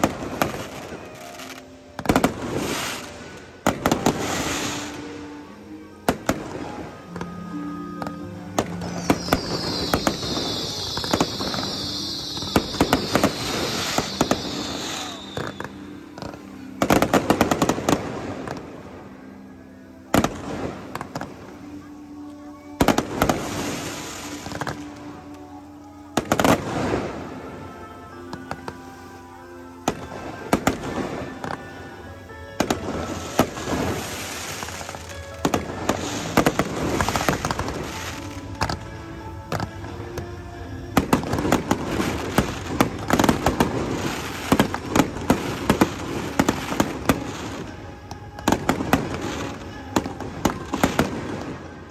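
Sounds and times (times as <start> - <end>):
fireworks bangs and crackles: 0.0 - 29.0, 29.6 - 51.9
high hiss dropping in pitch: 0.0 - 51.9
music playing: 0.0 - 51.9.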